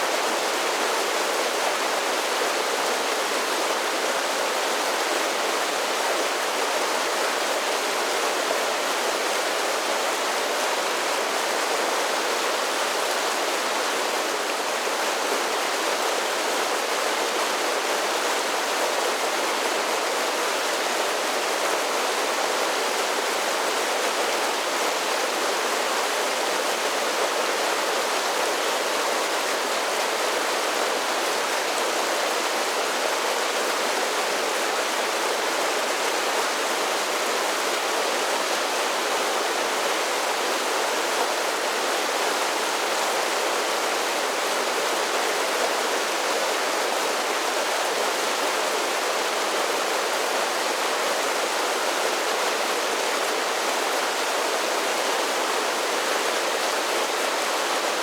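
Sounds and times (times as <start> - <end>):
creek water rushing down falls: 0.0 - 58.0.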